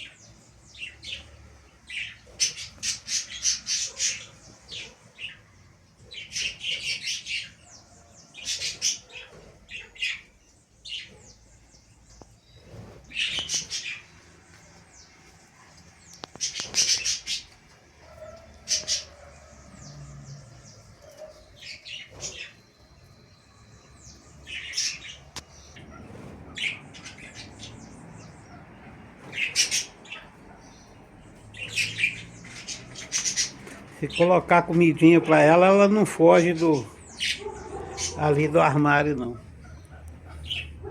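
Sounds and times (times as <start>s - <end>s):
cage birds chirping and squawking: 0.0s - 40.9s.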